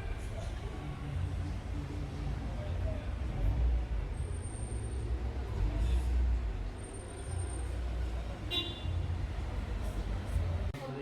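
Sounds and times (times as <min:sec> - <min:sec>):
vehicle rumble on road: 0:00.0 - 0:10.8.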